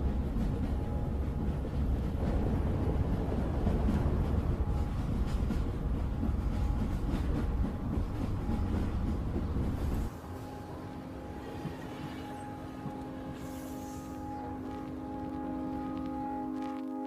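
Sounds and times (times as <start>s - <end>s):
quiet background music: 0.0s - 17.0s.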